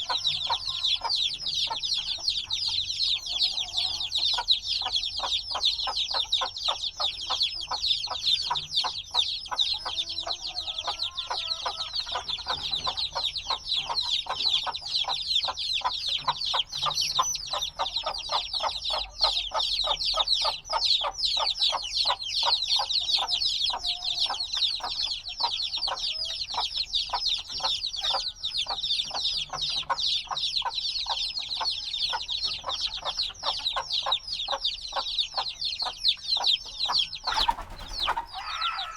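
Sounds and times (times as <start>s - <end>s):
chicks peeping: 0.0s - 38.9s
lower chick calls: 0.0s - 38.9s.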